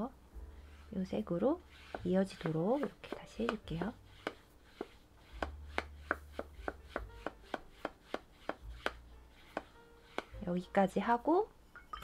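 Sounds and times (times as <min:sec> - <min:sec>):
paintbrush stroking on paper: 0:00.4 - 0:11.2.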